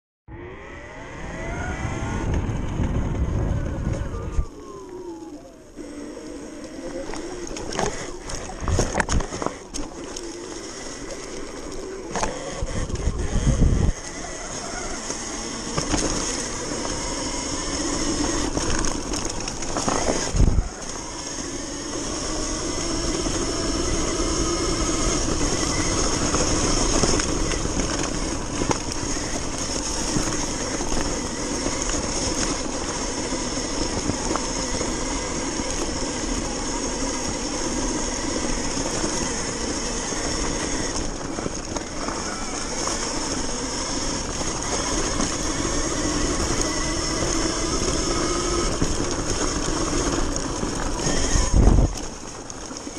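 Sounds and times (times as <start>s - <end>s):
electric dirt bike whine: 0.3s - 52.9s
wind and tyre noise: 0.3s - 52.9s.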